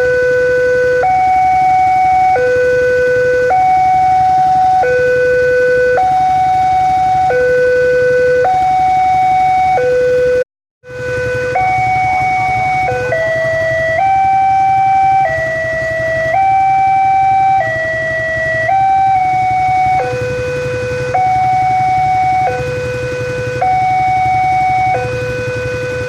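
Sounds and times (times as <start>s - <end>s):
level crossing alarm tones: 0.0s - 26.0s.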